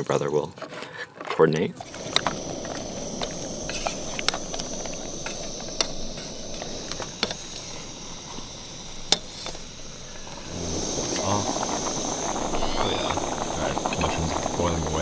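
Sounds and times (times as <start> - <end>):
camp stove hissing: 1.4 - 15.0.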